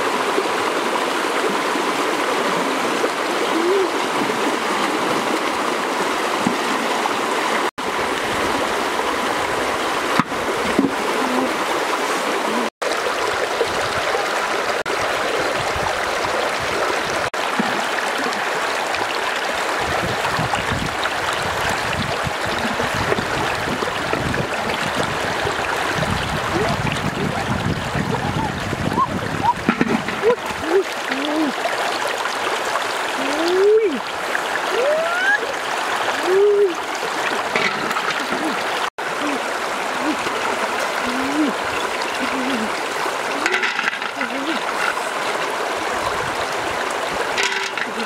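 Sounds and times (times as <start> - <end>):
deeper water churning: 0.0 - 48.0
stream gurgling over stones: 0.0 - 48.0.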